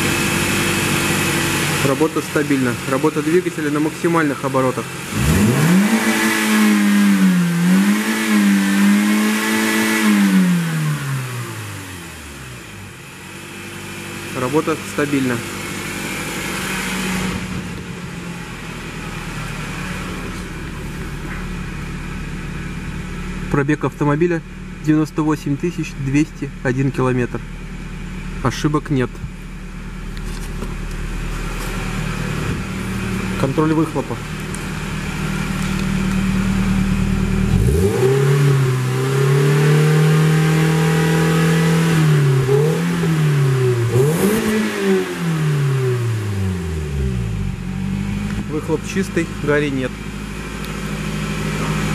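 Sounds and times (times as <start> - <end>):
car engine humming: 0.0 - 51.9.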